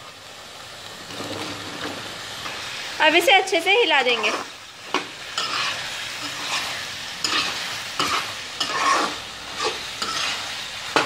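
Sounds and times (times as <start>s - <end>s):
frying sizzle: 0.0s - 11.0s
spatula scraping pan: 1.1s - 2.9s, 4.0s - 11.0s.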